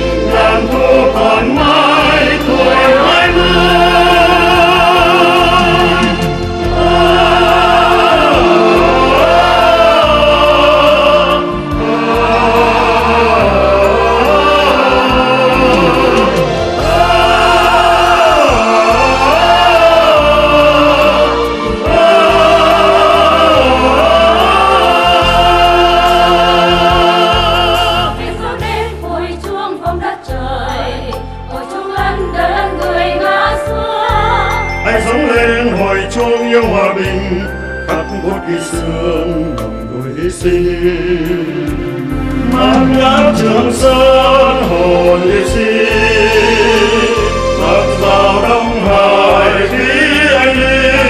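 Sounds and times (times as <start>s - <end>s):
choir singing with vibrato: 0.0s - 51.0s
instrumental accompaniment: 0.0s - 51.0s.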